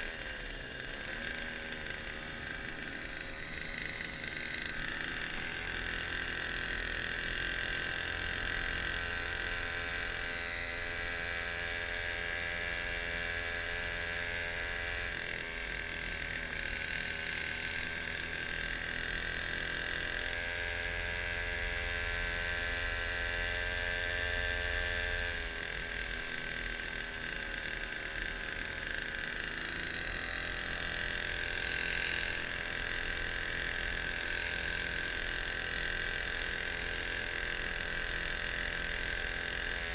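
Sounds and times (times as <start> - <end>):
small outboard motor whining: 0.0 - 39.9.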